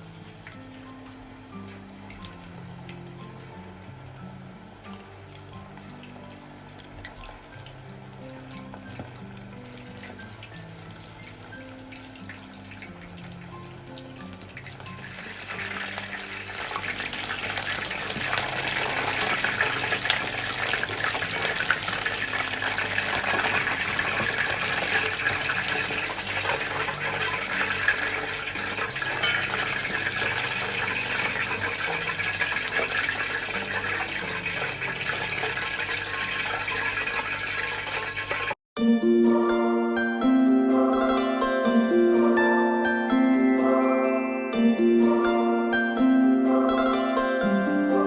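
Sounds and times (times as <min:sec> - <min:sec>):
light background music: 0:00.0 - 0:37.0, 0:38.8 - 0:48.0
food frying in hot oil: 0:00.0 - 0:38.6.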